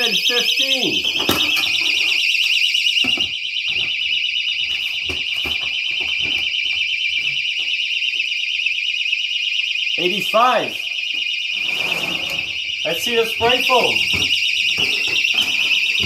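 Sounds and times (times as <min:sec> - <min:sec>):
warbling electronic alarm tone: 0:00.0 - 0:16.0.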